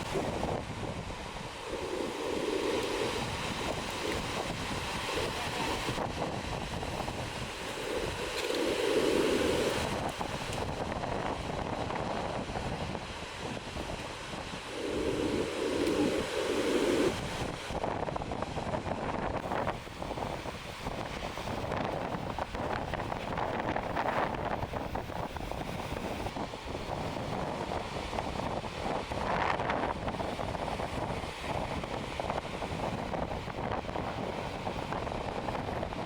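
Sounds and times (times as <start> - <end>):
surf breaking on shore: 0.0 - 36.0
wind buffeting microphone: 0.0 - 36.0.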